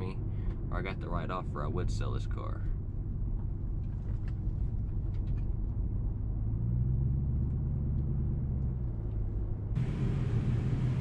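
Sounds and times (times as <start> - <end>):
low engine exhaust rumble: 0.0 - 11.0.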